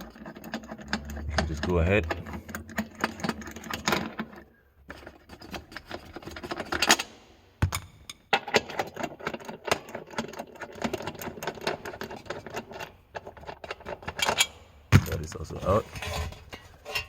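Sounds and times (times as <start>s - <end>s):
tools and nuts clicking and scraping: 0.0s - 17.0s.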